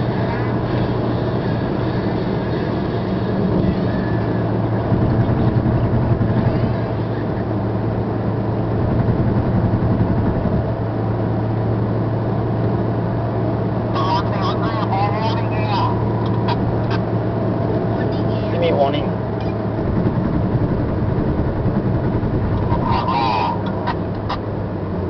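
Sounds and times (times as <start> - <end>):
car engine drone: 0.0 - 25.0
tyre and road noise: 0.0 - 25.0.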